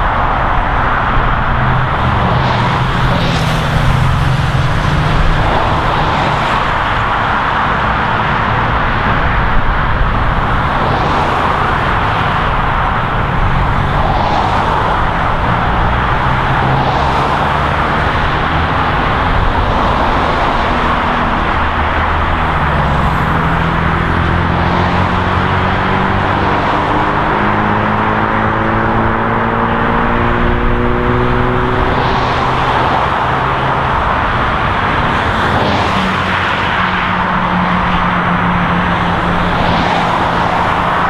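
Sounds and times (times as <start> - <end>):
heavy vehicle engine hum: 0.0 - 41.0
highway traffic rushing: 0.0 - 41.0.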